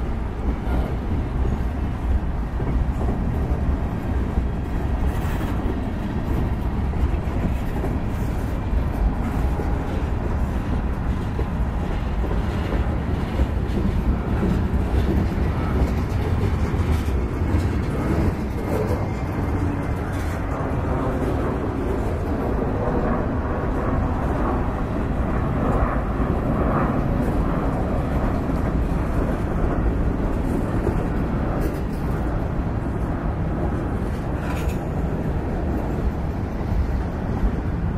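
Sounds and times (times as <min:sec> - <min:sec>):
steel wheels rumbling on rails: 0:00.0 - 0:37.9.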